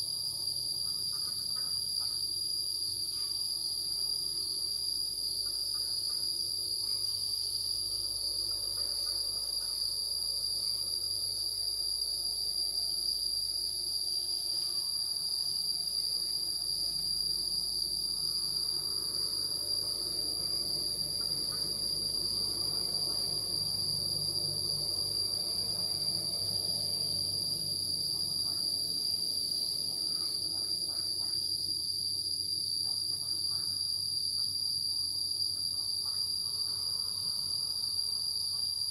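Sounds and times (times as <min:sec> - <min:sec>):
insect chorus droning: 0:00.0 - 0:38.9.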